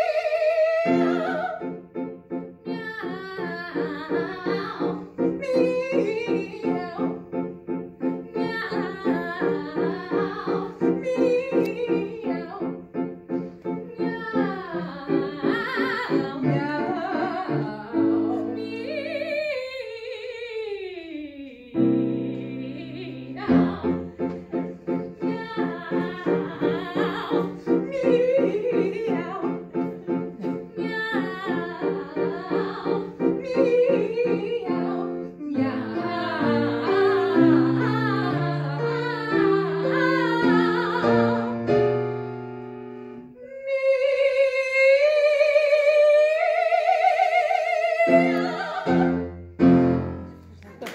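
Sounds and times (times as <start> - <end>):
women singing operatic duet: 0.0 - 1.9, 2.5 - 7.3, 8.1 - 12.8, 13.8 - 41.8, 43.3 - 49.4
piano accompaniment: 0.0 - 20.3, 21.7 - 43.4, 44.9 - 50.8.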